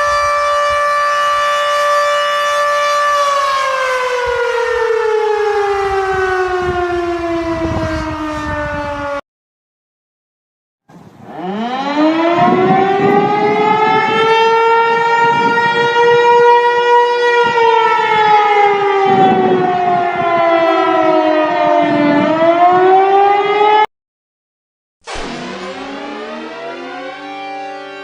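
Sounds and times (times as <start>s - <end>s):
warning siren wailing: 0.0s - 9.2s, 10.9s - 23.9s, 25.1s - 28.0s.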